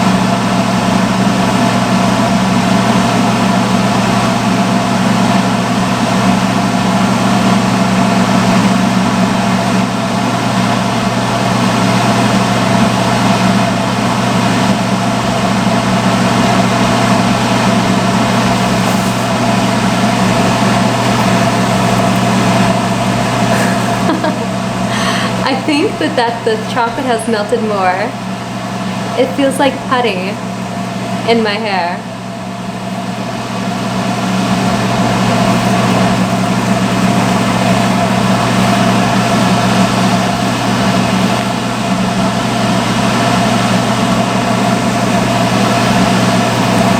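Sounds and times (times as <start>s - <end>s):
hood hair dryer blowing: 0.0s - 46.9s.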